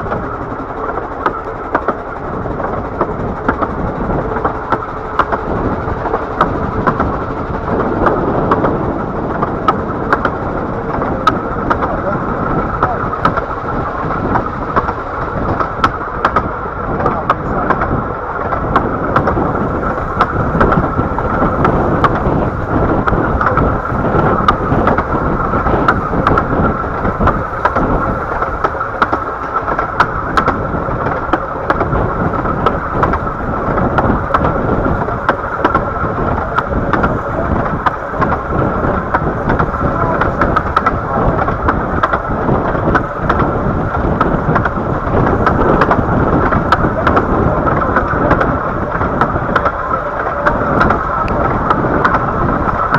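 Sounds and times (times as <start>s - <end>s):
train rumbling along track: 0.0s - 52.9s
wheels clicking on rails: 0.0s - 52.9s.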